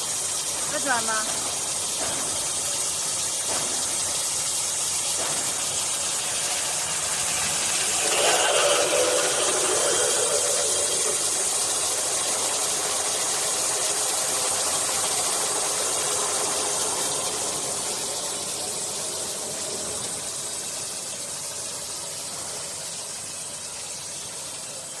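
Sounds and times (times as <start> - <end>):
drilling machine hiss: 0.0 - 25.0.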